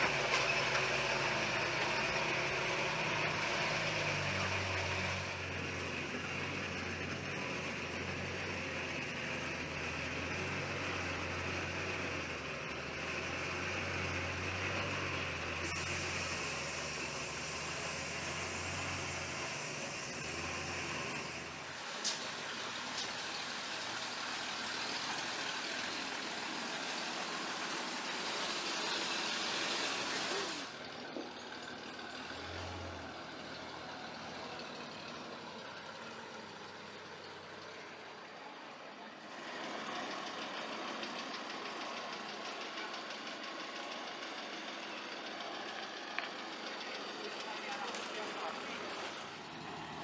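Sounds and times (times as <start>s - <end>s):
vehicle engine running: 0.0s - 21.8s, 22.5s - 50.0s.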